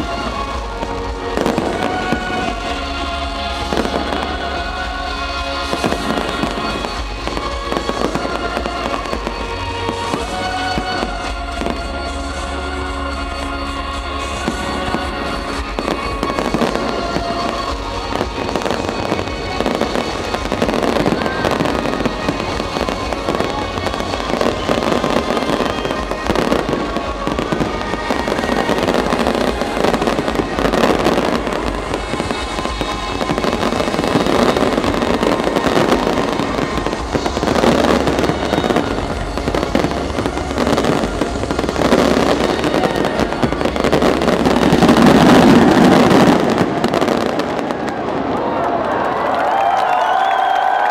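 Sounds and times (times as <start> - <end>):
fireworks bangs and crackles: 0.0 - 50.9
music playing: 0.0 - 50.9.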